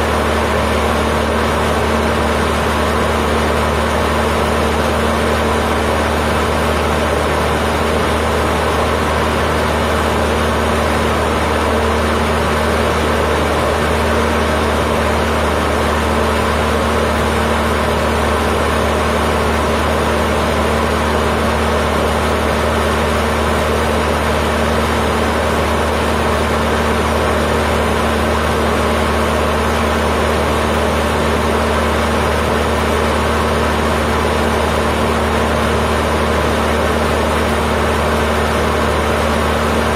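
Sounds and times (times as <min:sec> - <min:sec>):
small plane engine drone: 0:00.0 - 0:39.9.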